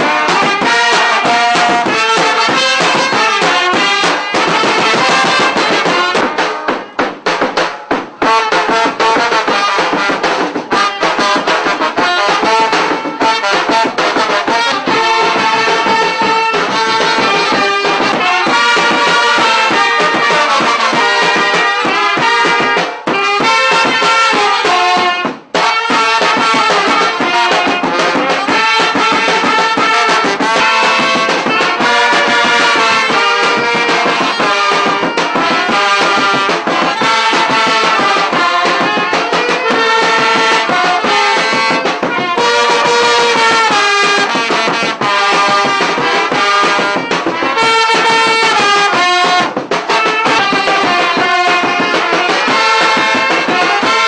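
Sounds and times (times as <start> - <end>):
drums: 0.0 - 54.0
trombone: 0.0 - 54.0
trumpet: 0.0 - 54.0.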